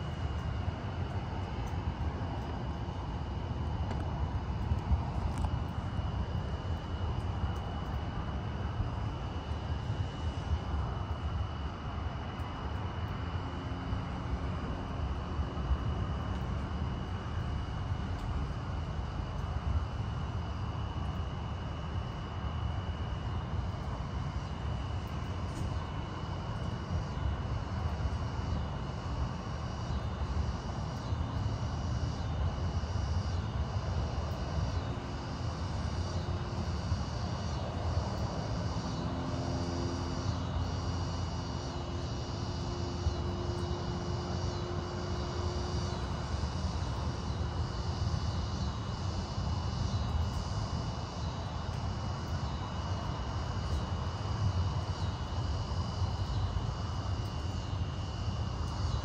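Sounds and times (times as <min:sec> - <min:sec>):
constant high trill: 0:00.0 - 0:59.0.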